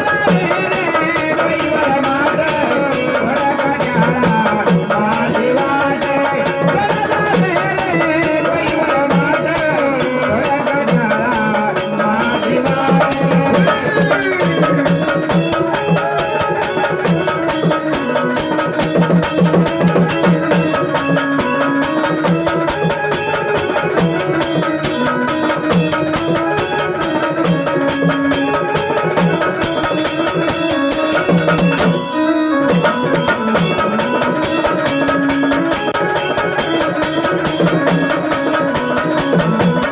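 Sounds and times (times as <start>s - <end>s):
folk music with drum beat: 0.0s - 32.0s, 32.7s - 39.9s.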